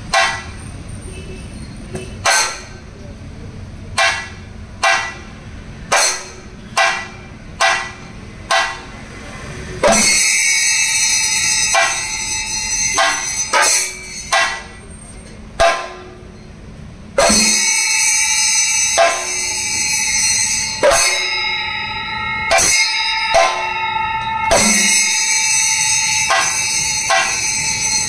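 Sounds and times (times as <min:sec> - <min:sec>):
cymbals ringing: 0:00.0 - 0:03.2, 0:03.9 - 0:28.0
drums: 0:05.4 - 0:28.0.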